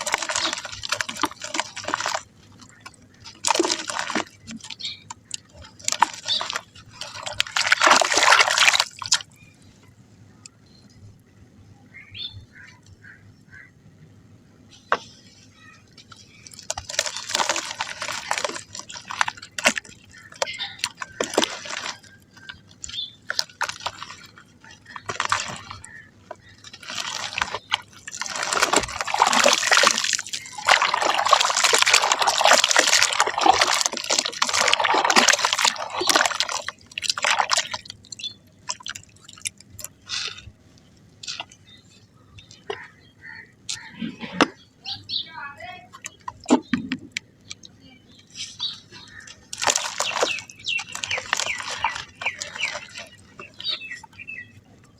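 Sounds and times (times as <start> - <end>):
mud crumbling in water: 0.0 - 9.6, 14.8 - 44.7, 45.6 - 54.9.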